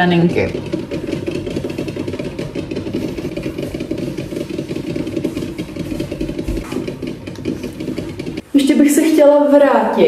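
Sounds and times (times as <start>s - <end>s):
fast mechanical rattle: 0.0s - 8.5s.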